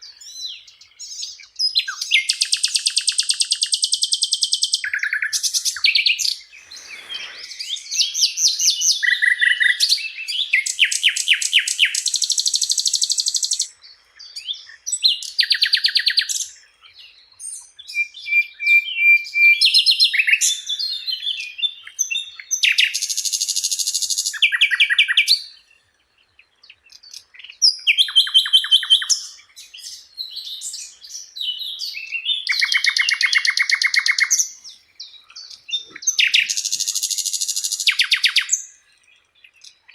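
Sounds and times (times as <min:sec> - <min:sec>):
flycatcher singing: 0:00.0 - 0:25.9, 0:26.6 - 0:39.9.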